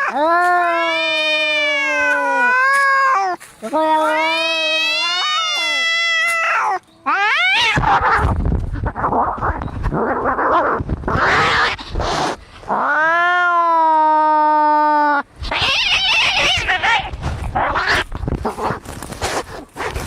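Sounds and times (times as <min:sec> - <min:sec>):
cats fighting with harsh cries: 0:00.0 - 0:20.0.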